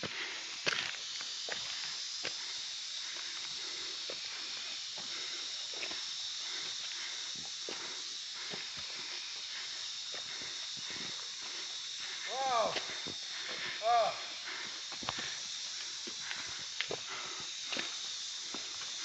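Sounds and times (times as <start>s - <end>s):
footsteps on trail: 0.0s - 19.0s
high-pitched hiss: 0.0s - 19.0s.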